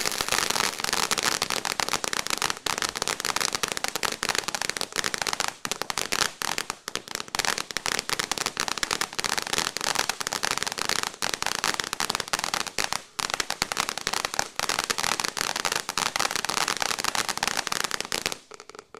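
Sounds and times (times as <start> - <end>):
firework fountain crackling: 0.0 - 18.9.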